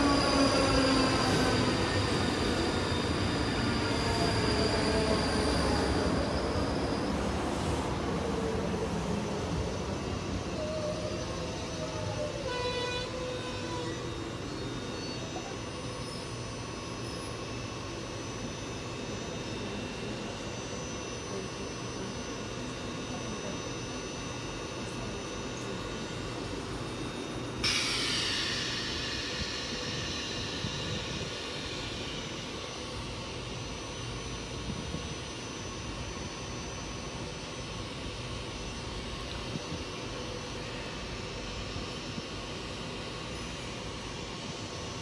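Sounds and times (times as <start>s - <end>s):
electric train humming: 0.0s - 45.0s.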